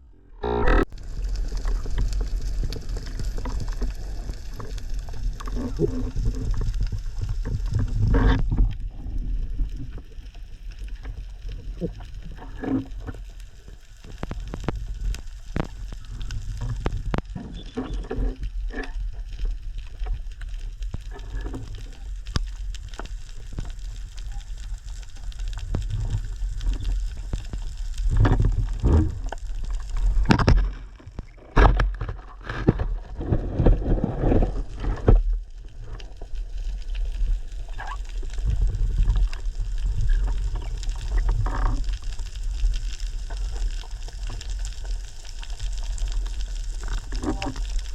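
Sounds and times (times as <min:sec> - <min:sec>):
underwater rumble of moving water: 0:00.0 - 0:47.9.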